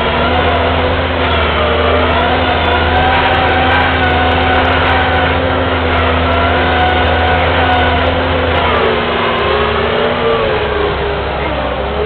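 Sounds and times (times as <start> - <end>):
diesel engine whining: 0.0 - 12.0.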